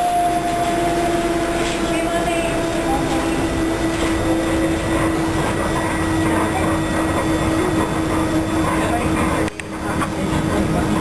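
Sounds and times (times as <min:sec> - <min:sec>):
steady hum: 0:00.0 - 0:11.0
train car rumbling on rails: 0:00.0 - 0:11.0.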